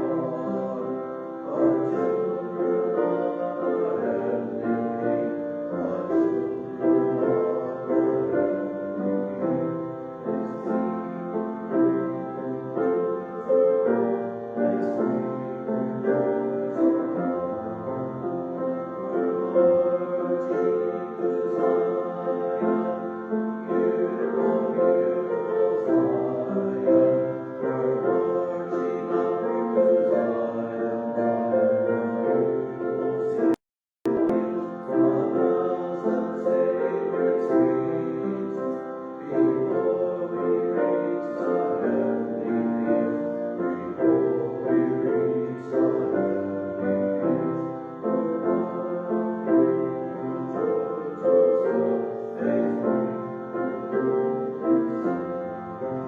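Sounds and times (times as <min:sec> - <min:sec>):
faint singing: 0:00.0 - 0:56.0
piano playing a hymn: 0:00.0 - 0:56.0.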